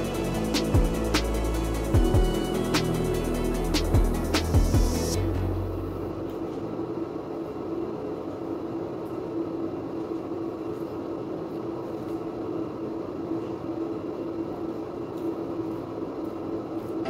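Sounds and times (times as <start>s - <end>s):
fan motor hum: 0.0s - 17.0s.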